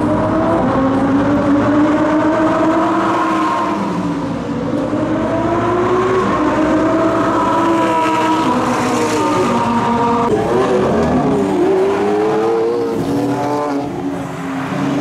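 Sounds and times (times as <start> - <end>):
car engines at full throttle: 0.0 - 15.0.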